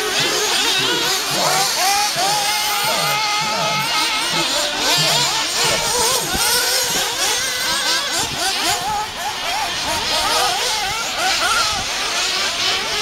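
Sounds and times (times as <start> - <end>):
rc car engines revving: 0.0 - 13.0.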